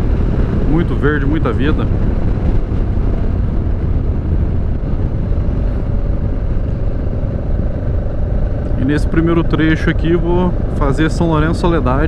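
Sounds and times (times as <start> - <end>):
motorcycle engine rumble: 0.0 - 12.0
wind rushing over microphone: 0.0 - 12.0.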